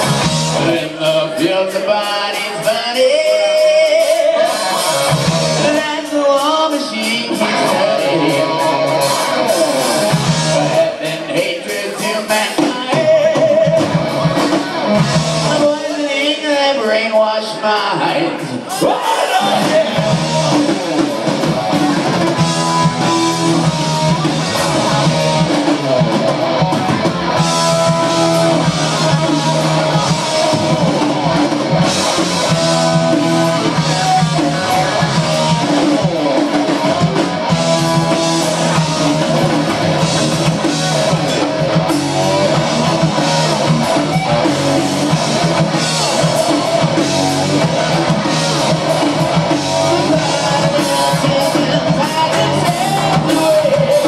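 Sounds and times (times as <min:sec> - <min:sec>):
drum kit: 0:00.0 - 0:16.9, 0:17.7 - 0:54.0
guitar: 0:00.0 - 0:54.0
hard rock band playing: 0:00.0 - 0:54.0.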